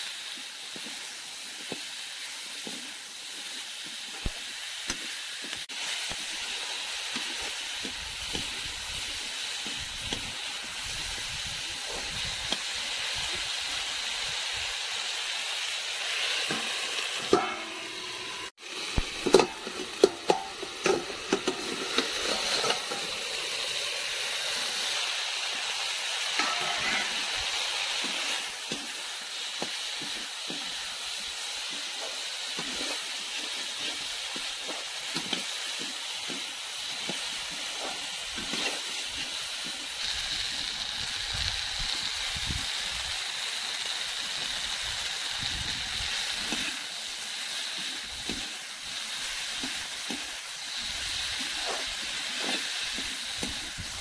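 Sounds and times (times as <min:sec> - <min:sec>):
tomato pieces sizzling in a pan: 0:00.0 - 0:54.0.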